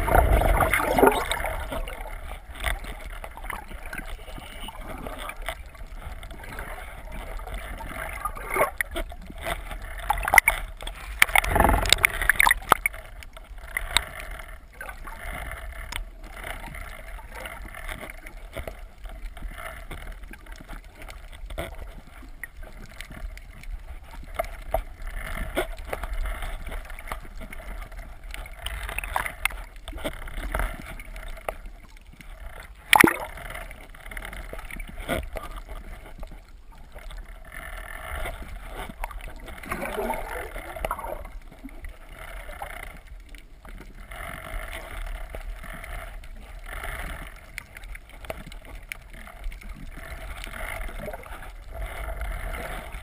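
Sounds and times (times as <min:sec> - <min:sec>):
deep underwater rumble: 0:00.0 - 0:53.0
muffled underwater water rushing: 0:00.0 - 0:53.0.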